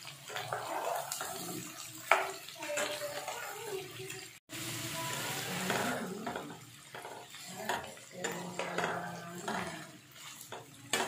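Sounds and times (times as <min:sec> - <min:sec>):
spatula scraping and knocking pan: 0:00.0 - 0:03.6, 0:05.4 - 0:11.0
food sizzling in hot oil: 0:00.0 - 0:11.0.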